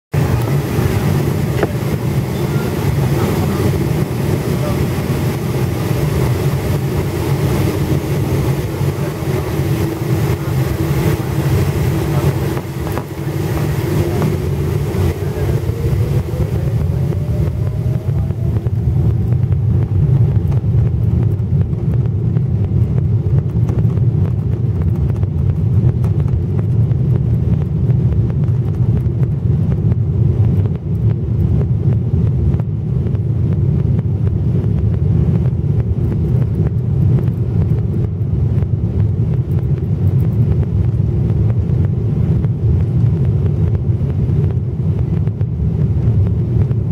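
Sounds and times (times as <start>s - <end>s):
deep steady cabin rumble: 0.1s - 46.9s
jet engine whine rising: 0.2s - 46.9s.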